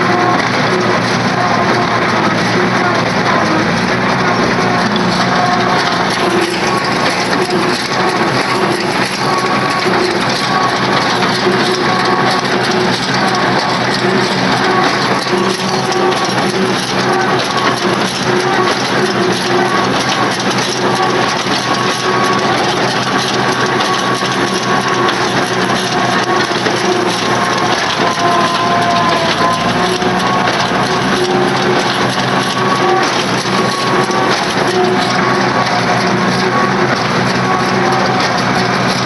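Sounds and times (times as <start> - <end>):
baler mechanical clatter: 0.0 - 39.0
tractor engine drone: 0.0 - 39.0.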